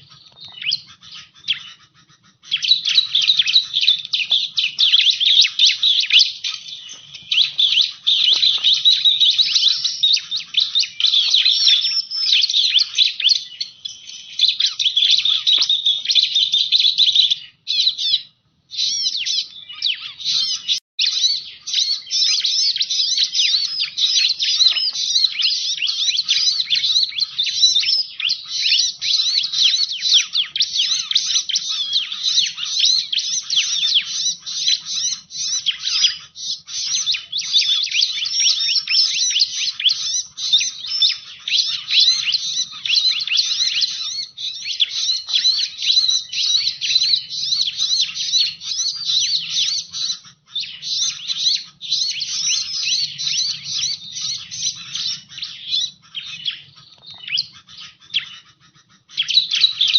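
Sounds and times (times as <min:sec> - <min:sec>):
bird chirps and trills: 0:00.0 - 0:59.9.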